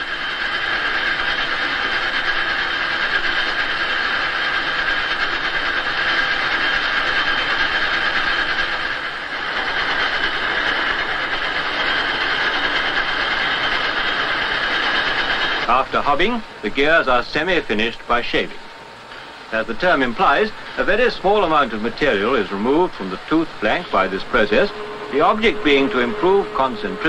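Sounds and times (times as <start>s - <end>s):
machine clatter with high whine: 0.0s - 27.0s.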